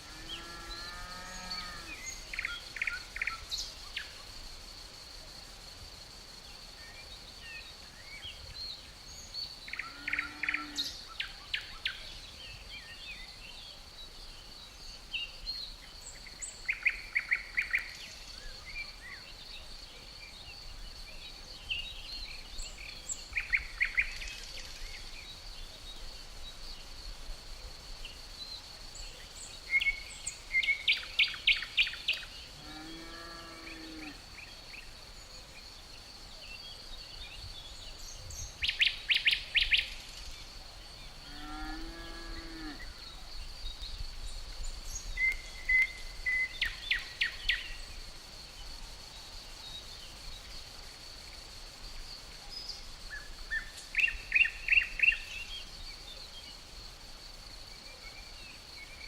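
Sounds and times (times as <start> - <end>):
crickets trilling: 0.0 - 59.0
songbird singing: 0.0 - 59.0.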